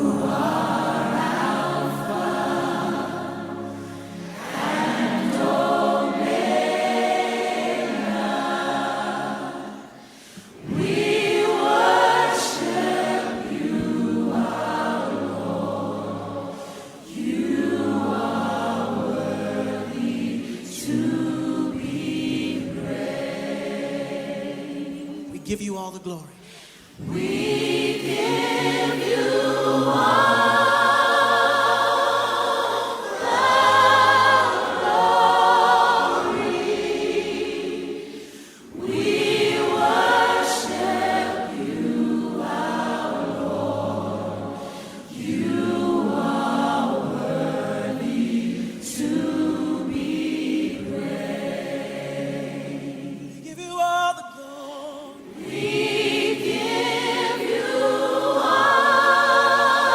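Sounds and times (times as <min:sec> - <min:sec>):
people singing worship song: 0:00.0 - 0:25.4, 0:26.4 - 0:59.9.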